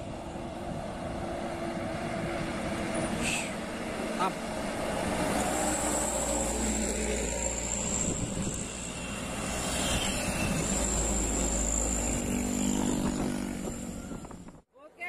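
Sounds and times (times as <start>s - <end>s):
diesel trucks driving past: 0.0s - 14.5s
tyres rumbling on road: 0.0s - 14.6s.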